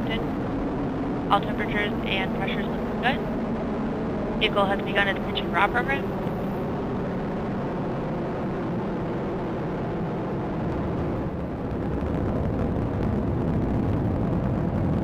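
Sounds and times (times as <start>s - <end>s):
rocket engines low rumbling: 0.0s - 15.0s.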